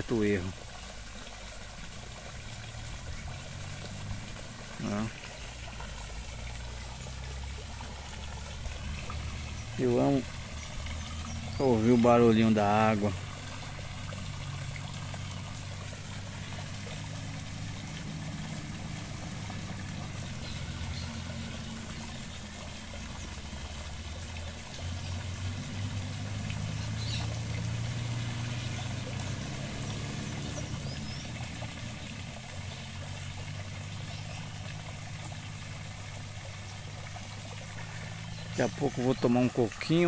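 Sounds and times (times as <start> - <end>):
water splashing into pond: 0.0 - 40.0.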